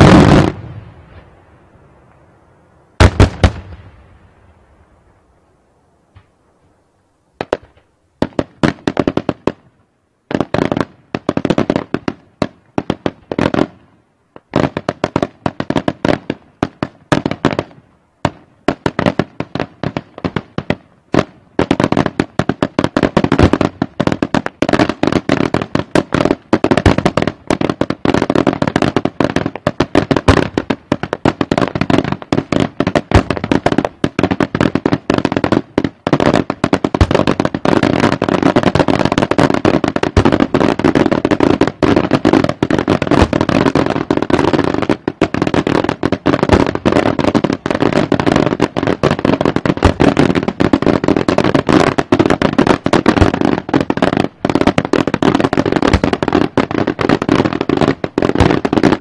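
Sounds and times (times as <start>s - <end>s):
fireworks bangs: 0.0s - 5.3s, 6.1s - 9.6s, 14.4s - 59.0s.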